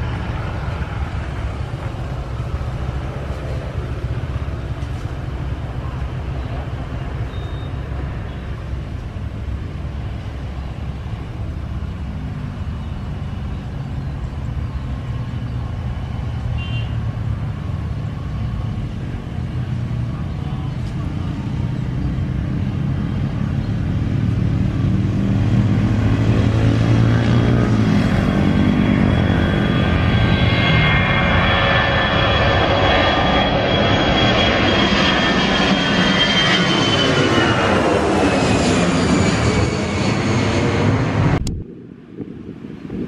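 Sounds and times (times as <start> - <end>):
jet airliner engines roaring: 0.0 - 43.0.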